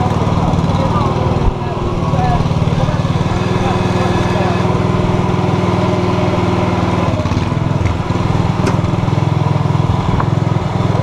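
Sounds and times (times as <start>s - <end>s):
model excavator motor drone: 0.0s - 11.0s.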